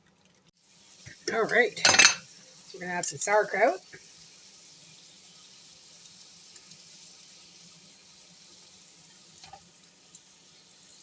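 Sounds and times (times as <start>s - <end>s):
sizzling in a frying pan: 0.0s - 11.0s.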